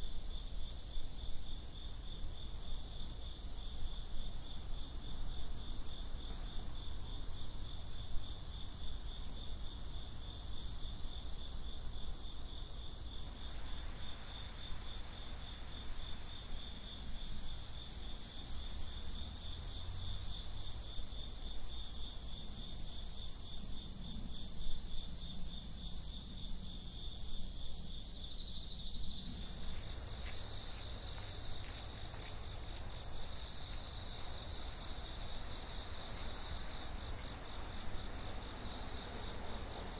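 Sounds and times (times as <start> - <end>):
crickets chirping: 0.0 - 39.9
high-pitched pulsing insect song: 0.3 - 39.9.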